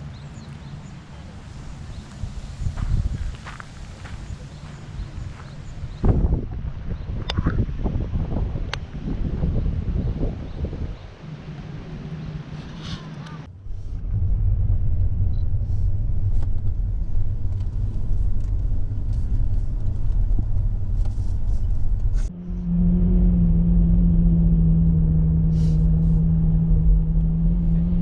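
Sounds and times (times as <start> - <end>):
loud vehicle rumble: 0.0 - 28.0
steady engine hum: 0.0 - 28.0.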